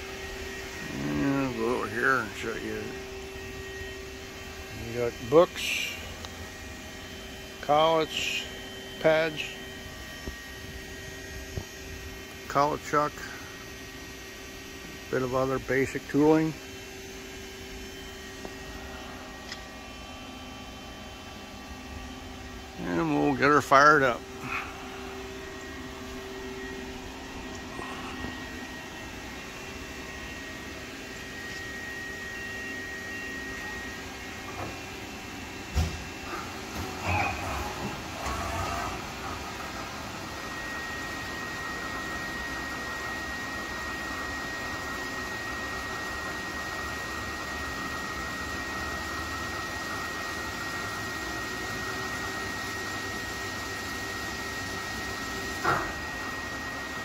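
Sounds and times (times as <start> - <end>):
high machine whine: 0.0 - 57.0
lathe machine hum: 0.0 - 57.0.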